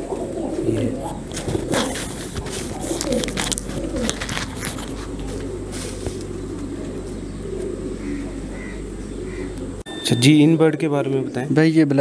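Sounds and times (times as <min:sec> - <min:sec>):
pigeons cooing: 0:00.0 - 0:09.9.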